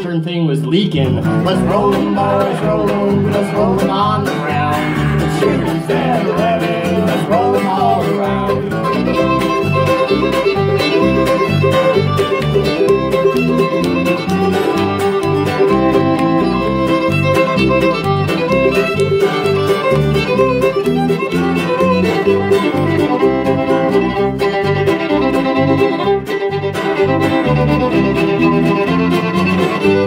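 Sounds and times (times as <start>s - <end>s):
bluegrass band playing: 0.0s - 30.0s
fiddle melody: 0.7s - 30.0s.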